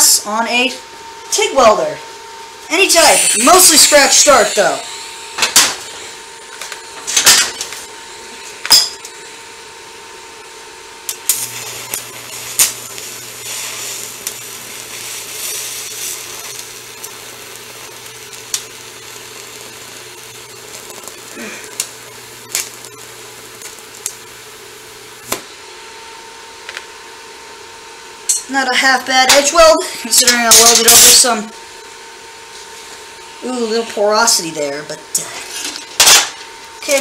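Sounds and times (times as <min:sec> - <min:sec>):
welding arc humming and hissing: 0:00.0 - 0:37.0.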